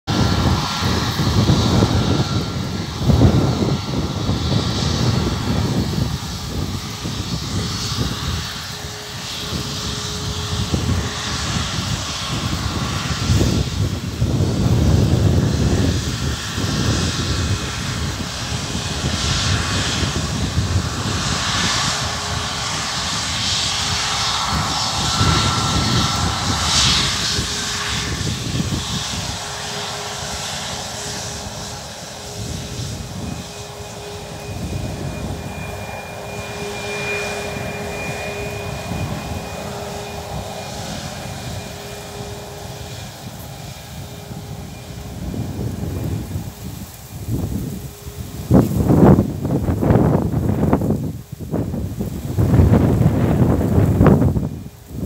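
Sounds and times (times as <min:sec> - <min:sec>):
jet engines taxiing: 0:00.0 - 0:55.0
low rumble: 0:00.0 - 0:55.0.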